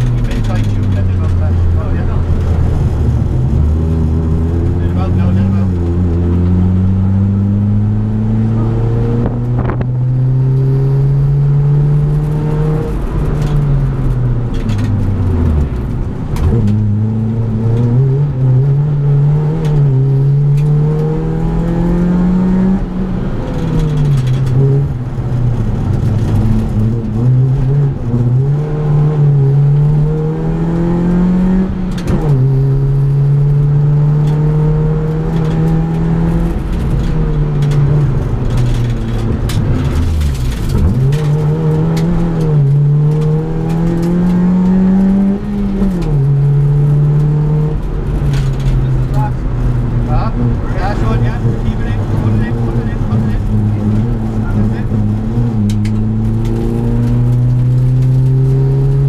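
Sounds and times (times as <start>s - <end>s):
race car engine revving: 0.0s - 59.0s
road and tyre noise: 0.0s - 59.0s.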